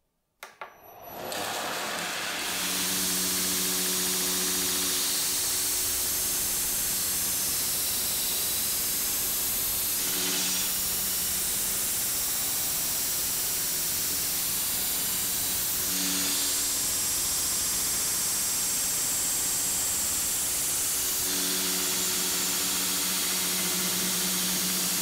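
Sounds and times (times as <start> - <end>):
sander motor hum: 0.8 - 25.0
belt sander grinding steel: 1.0 - 17.2, 20.5 - 25.0.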